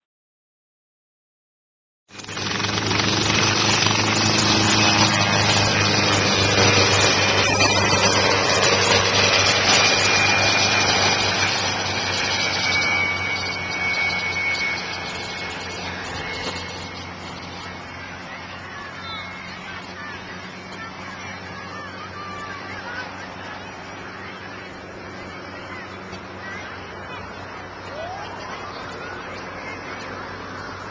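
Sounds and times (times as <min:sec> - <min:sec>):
helicopter rotor and engine: 0:02.1 - 0:30.9.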